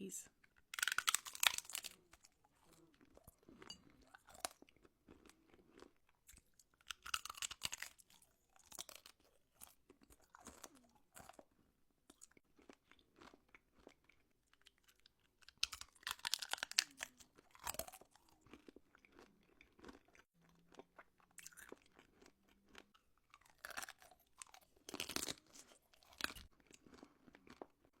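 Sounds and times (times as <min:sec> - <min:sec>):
candy crunching: 0:00.8 - 0:11.5, 0:12.1 - 0:28.0.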